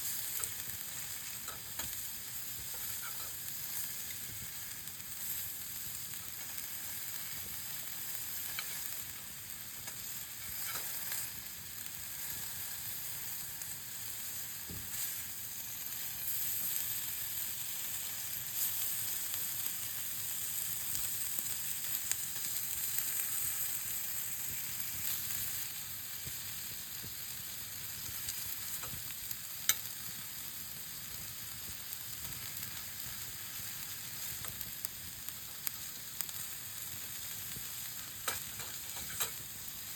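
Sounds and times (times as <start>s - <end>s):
meat sizzling over fire: 0.0s - 39.9s.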